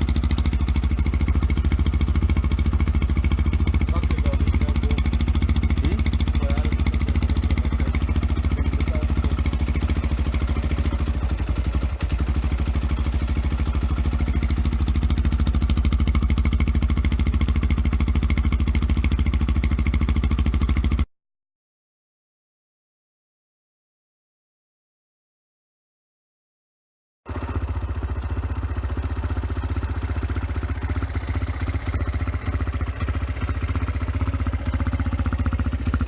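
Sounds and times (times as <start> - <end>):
motorcycle engine idling: 0.0 - 21.1, 27.3 - 36.0.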